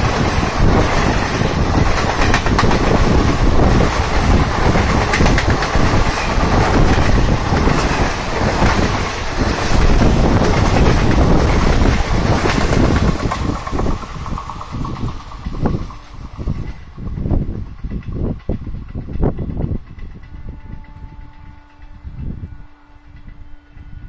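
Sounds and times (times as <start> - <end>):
train wheels clattering over rail joints: 0.0 - 22.0.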